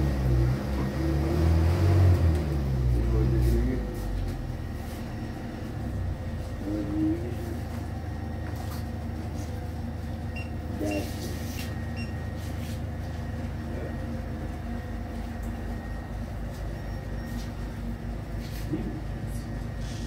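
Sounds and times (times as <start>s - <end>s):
engine running low rumble: 0.0s - 20.0s.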